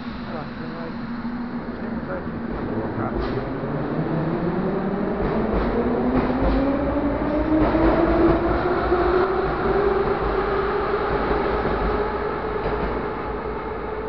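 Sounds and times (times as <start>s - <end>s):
train motors whining: 0.0s - 14.0s
wheels rumbling on rail: 0.0s - 14.0s.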